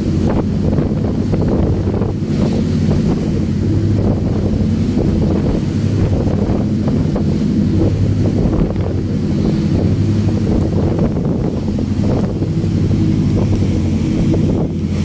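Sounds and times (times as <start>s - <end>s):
boat engine drone: 0.0s - 15.0s
churning wake water: 0.0s - 15.0s
wind buffeting microphone: 0.0s - 15.0s.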